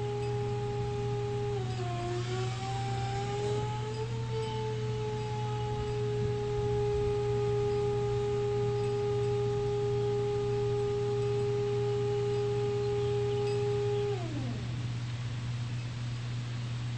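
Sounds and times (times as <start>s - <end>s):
electric drive whine: 0.0s - 16.9s
low hum: 0.0s - 16.9s.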